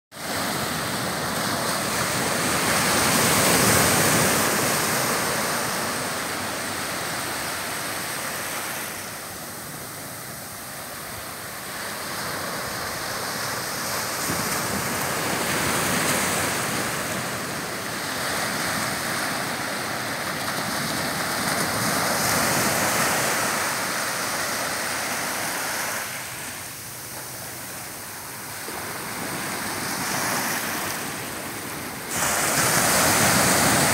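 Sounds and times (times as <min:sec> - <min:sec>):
small waves breaking on shore: 0:00.2 - 0:33.9.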